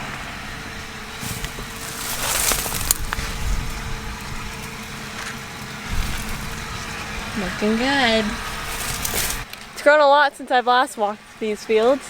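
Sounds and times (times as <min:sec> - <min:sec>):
low rumbling: 0:00.0 - 0:12.0
rustling of corn plants: 0:00.1 - 0:09.8.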